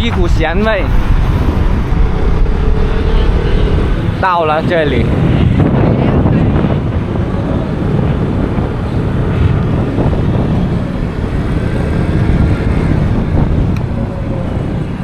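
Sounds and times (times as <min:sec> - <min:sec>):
scooter road noise: 0:00.0 - 0:15.0
wind rush on microphone: 0:00.0 - 0:15.0.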